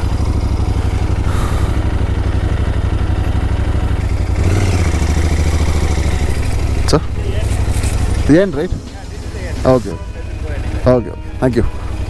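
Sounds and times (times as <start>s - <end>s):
motorcycle engine low throb: 0.0s - 12.0s.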